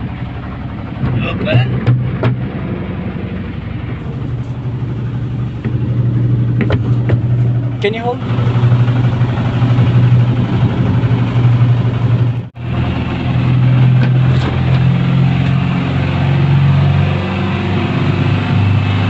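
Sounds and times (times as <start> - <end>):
boat engine low hum: 0.0 - 19.0.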